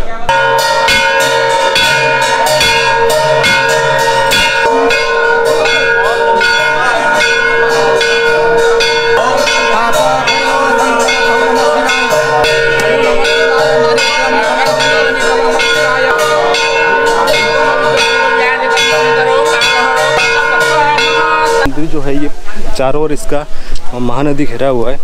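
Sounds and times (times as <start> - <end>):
temple bells ringing: 0.3 - 21.8.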